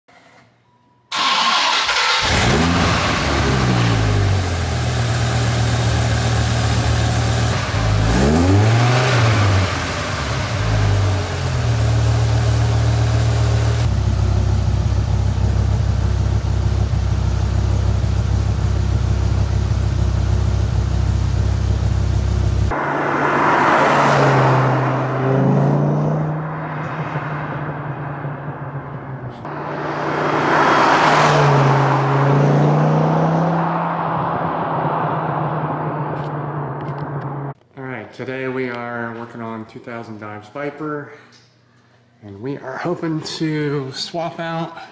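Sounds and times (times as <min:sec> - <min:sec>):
car engine idling and revving: 0:01.1 - 0:37.6.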